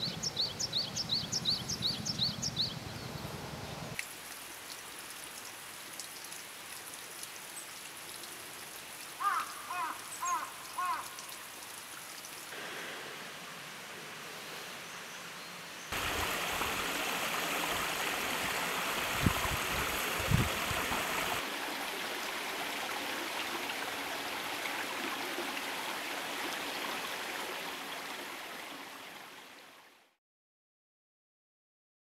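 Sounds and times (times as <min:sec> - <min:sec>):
stream rushing over rocks: 0:03.9 - 0:30.0.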